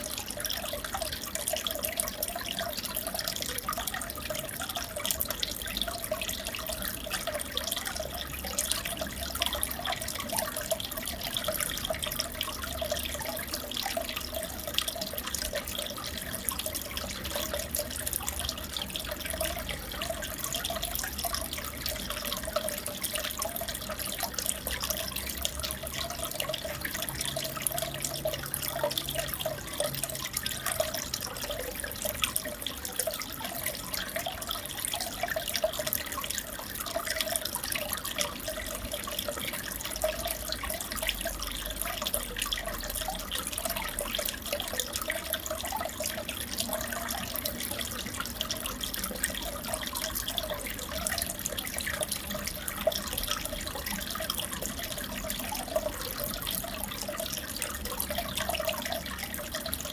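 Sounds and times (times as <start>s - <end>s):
aquarium water trickling and bubbling: 0.0s - 59.9s
small drips and splashes: 0.0s - 59.9s.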